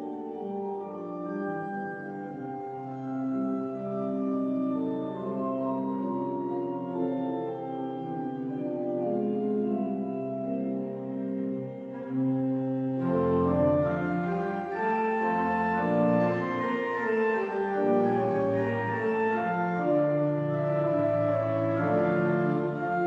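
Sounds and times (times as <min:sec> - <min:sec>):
organ playing slow chords: 0:00.0 - 0:23.0.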